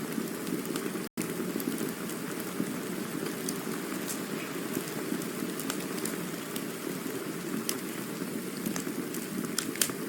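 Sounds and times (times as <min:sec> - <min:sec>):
campfire burning: 0:00.0 - 0:10.0
fire crackles and pops: 0:00.0 - 0:10.0.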